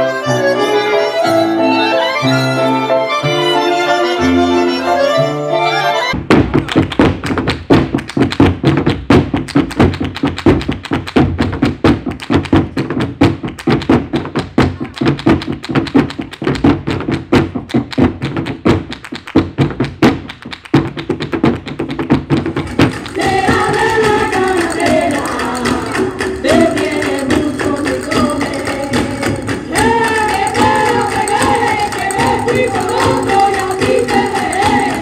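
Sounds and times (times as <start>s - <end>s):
hand clapping: 6.4s - 35.0s.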